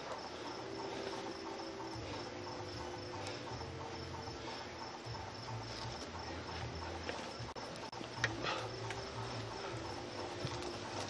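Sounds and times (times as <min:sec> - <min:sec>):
crickets chirping: 0:00.0 - 0:11.0
low steady hum: 0:00.0 - 0:11.0.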